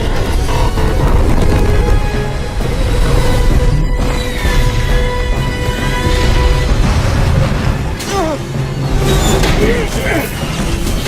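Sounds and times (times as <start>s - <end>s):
dramatic film score: 0.0s - 11.0s.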